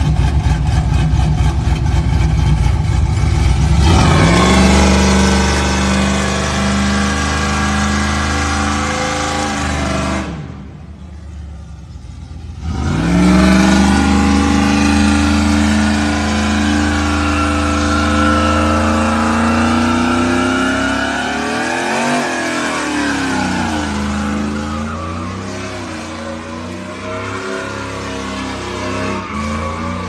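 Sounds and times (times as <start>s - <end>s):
truck engine revving hard: 0.0s - 10.8s, 12.6s - 30.0s
tires squealing: 3.4s - 10.6s, 12.6s - 30.0s.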